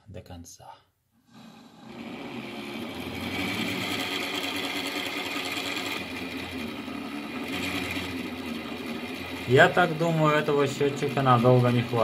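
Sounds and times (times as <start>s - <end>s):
water meter whirring: 1.3s - 12.0s.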